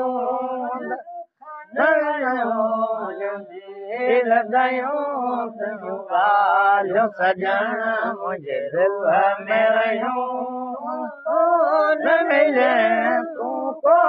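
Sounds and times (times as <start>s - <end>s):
elderly man chanting: 0.0s - 14.0s.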